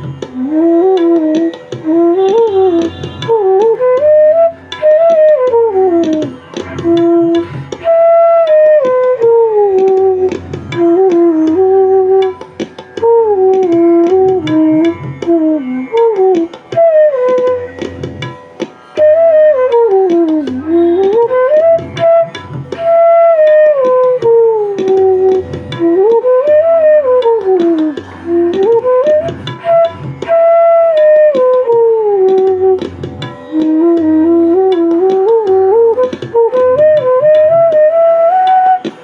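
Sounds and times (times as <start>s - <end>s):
bamboo flute melody: 0.0s - 39.0s
light percussion thumps and clicks: 0.0s - 39.0s.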